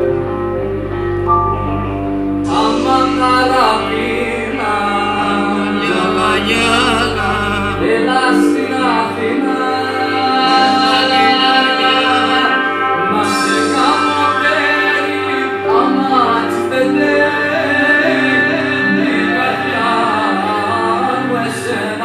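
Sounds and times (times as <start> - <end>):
deep drone: 0.0 - 22.0
sustained chords: 0.0 - 22.0
person singing ornamented line: 2.4 - 22.0.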